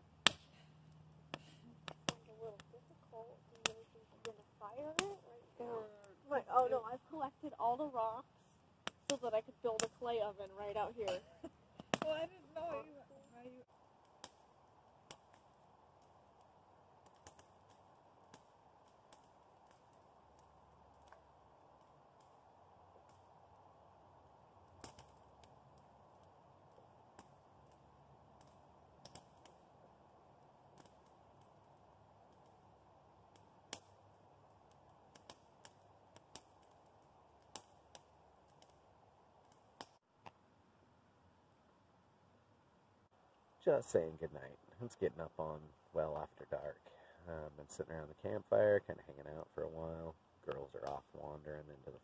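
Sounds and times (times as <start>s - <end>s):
campfire crackling: 0.0s - 52.0s
quiet background hiss: 0.0s - 52.0s.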